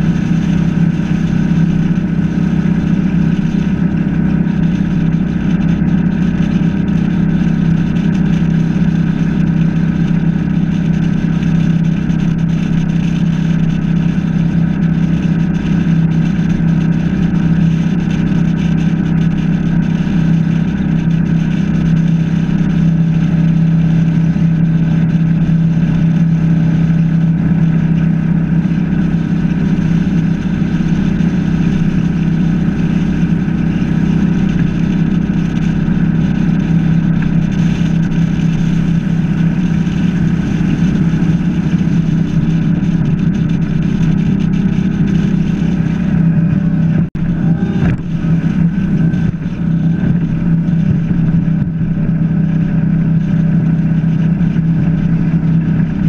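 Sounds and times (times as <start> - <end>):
boat engine droning: 0.0 - 56.0
wind and water rushing: 0.0 - 56.0.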